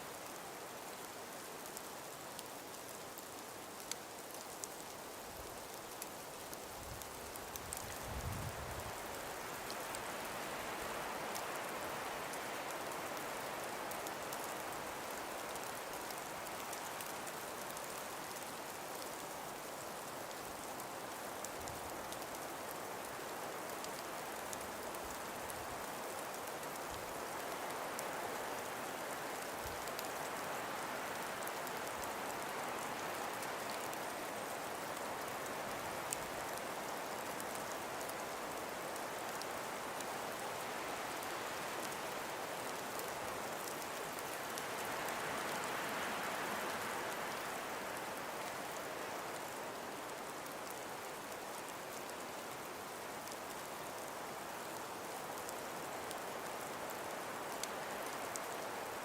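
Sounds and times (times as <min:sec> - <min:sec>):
breeze through trees: 0:00.0 - 0:59.0.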